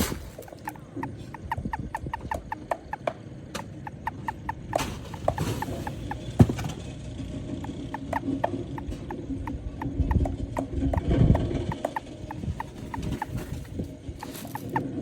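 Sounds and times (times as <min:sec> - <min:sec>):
toad calling: 0:00.0 - 0:06.4, 0:07.6 - 0:14.9.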